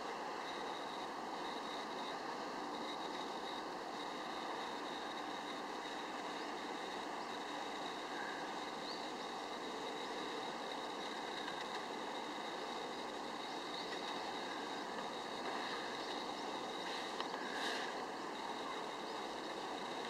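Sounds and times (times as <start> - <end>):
faint steady high tone: 0.0 - 20.0
hum and hiss: 0.0 - 20.0.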